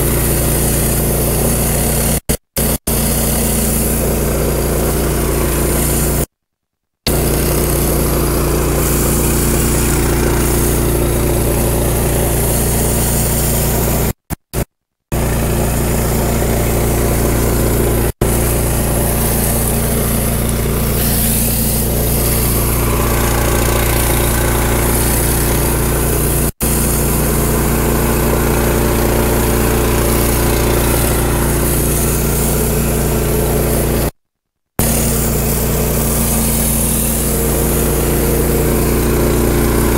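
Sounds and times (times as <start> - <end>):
pressure washer engine running: 0.0 - 6.3, 7.1 - 14.2, 15.1 - 34.2, 34.8 - 39.9.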